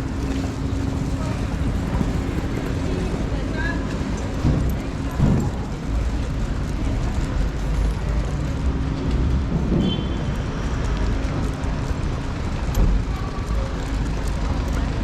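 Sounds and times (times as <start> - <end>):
low rumble of vehicle noise: 0.0 - 15.0.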